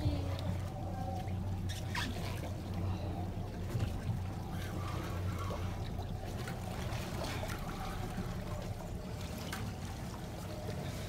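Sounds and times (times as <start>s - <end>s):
boat engine idling: 0.0s - 11.0s
water lapping against hull: 0.0s - 11.0s.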